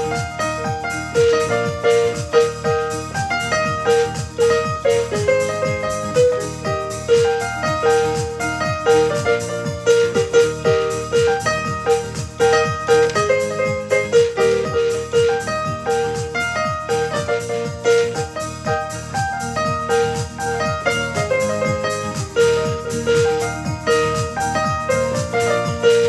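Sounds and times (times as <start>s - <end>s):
keyboard melody: 0.0s - 26.0s
steady beat: 0.0s - 26.0s.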